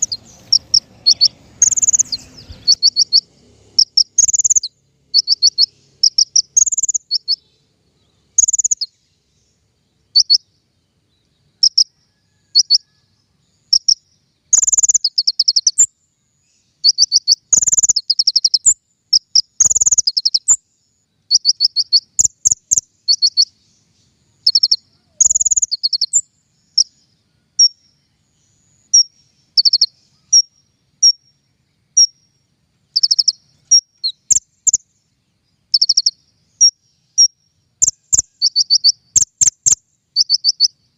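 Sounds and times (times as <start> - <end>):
songbird chirps and trills: 0.0 - 40.9.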